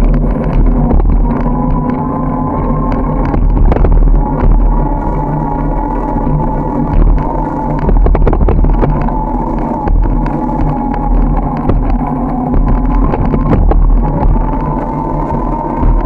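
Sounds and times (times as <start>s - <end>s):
road rumble: 0.0s - 16.0s
steady hum: 0.0s - 16.0s
wind on microphone: 0.0s - 16.0s.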